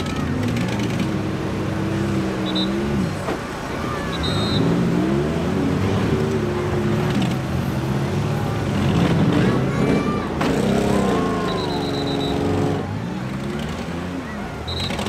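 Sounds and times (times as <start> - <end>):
minivan engines revving: 0.0 - 15.0.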